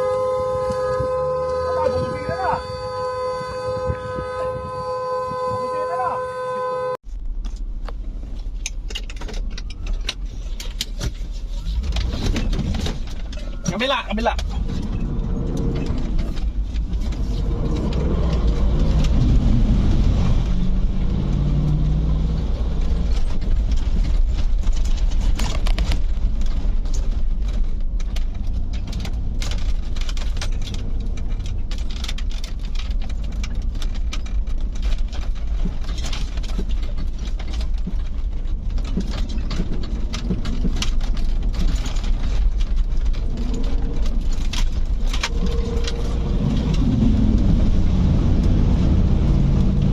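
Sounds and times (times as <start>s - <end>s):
engine and road rumble: 0.0s - 49.9s.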